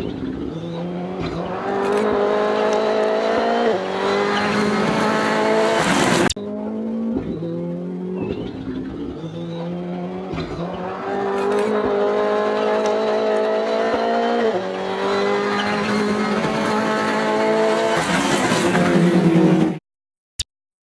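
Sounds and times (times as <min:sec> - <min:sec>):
rally car engine revving: 0:00.0 - 0:19.8.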